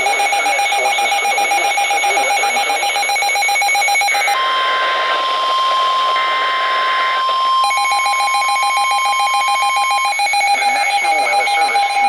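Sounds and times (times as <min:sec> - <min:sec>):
rapidly pulsing electronic beeps: 0:00.0 - 0:12.0.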